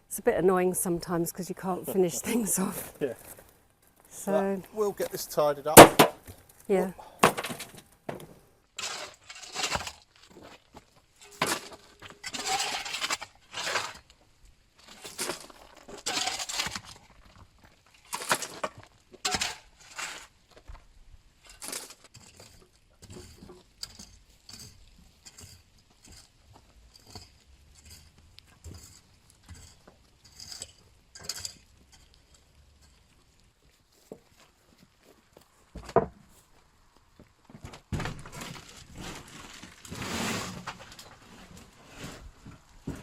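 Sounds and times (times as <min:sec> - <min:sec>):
rubble scraping and crunching: 0:01.7 - 0:43.0.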